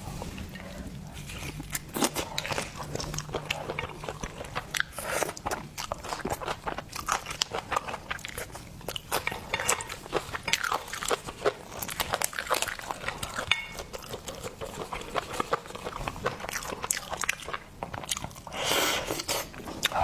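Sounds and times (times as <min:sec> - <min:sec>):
crunching and wet chewing: 0:00.0 - 0:20.0.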